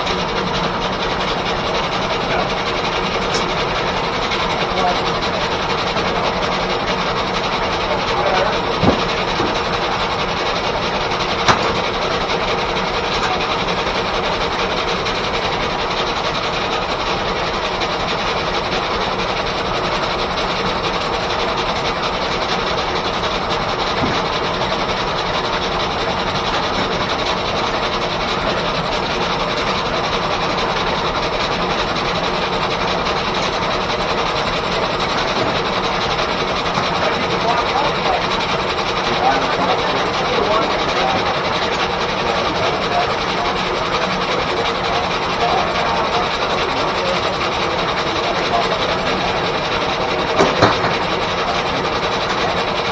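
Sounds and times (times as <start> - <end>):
sawmill running: 0.0 - 52.9.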